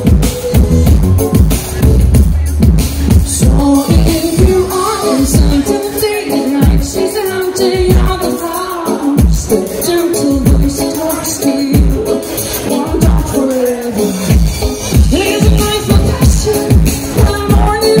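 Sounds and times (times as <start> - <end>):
woman singing: 3.1 - 18.0.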